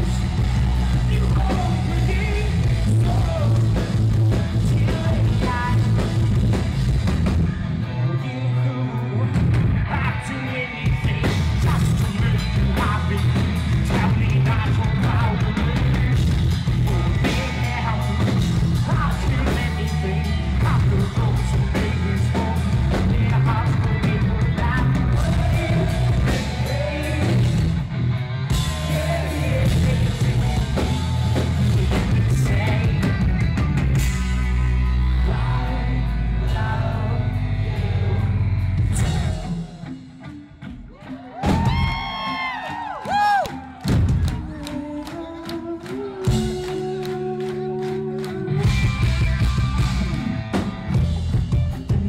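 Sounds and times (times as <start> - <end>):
person singing: 0.0 - 6.2, 7.8 - 27.8, 28.5 - 33.5, 34.7 - 40.1, 41.1 - 52.0
drum kit: 0.0 - 7.9, 10.8 - 45.2, 45.8 - 52.0
distorted electric guitars: 0.0 - 45.2, 45.8 - 52.0.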